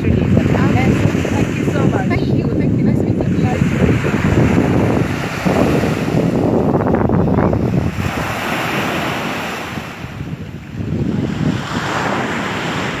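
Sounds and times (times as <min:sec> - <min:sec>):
sea waves breaking on beach: 0:00.0 - 0:13.0
wind buffeting microphone: 0:00.0 - 0:13.0.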